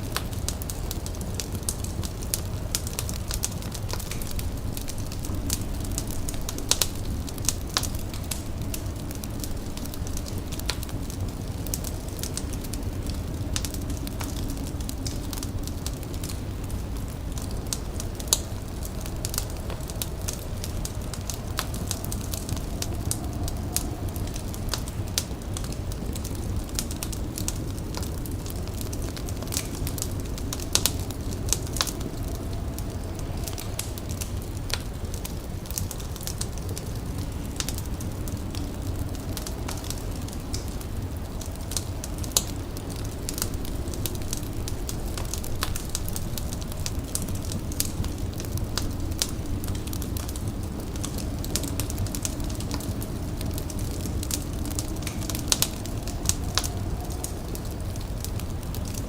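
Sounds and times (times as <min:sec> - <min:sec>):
wood fire crackling: 0:00.0 - 0:59.0
low rumble: 0:00.4 - 0:59.0.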